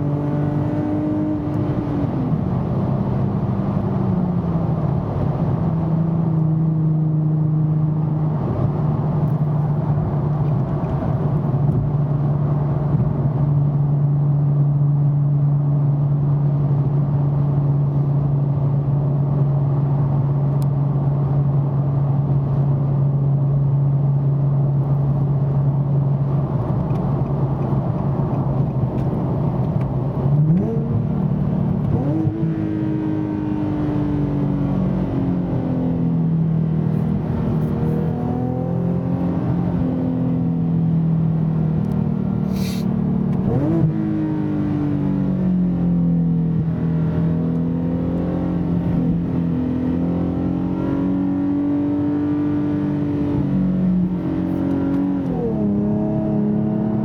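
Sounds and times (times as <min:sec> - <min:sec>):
car engine revving: 0:00.0 - 0:13.4, 0:24.8 - 0:57.0.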